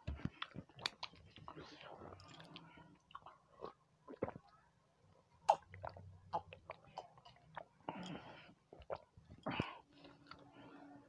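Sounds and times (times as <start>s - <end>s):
mouth chewing with wet smacks: 0.0s - 4.5s, 5.4s - 10.4s.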